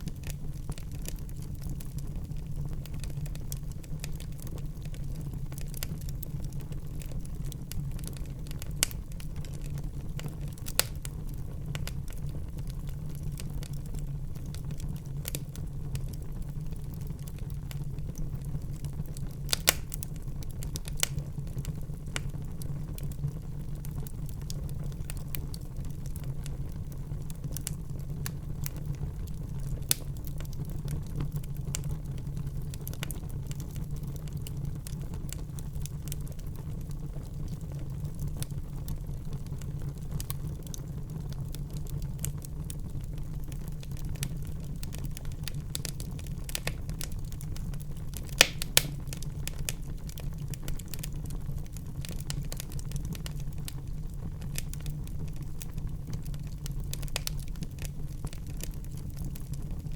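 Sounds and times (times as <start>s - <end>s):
fire burning with crackles: 0.0s - 59.9s
fire popping: 0.0s - 59.9s.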